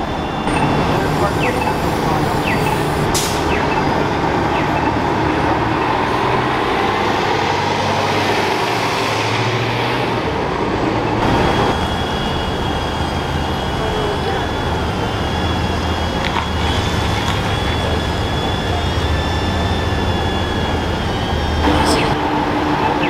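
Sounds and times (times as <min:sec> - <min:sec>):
bus driving past: 0:00.0 - 0:23.0
low traffic hum: 0:00.0 - 0:23.0.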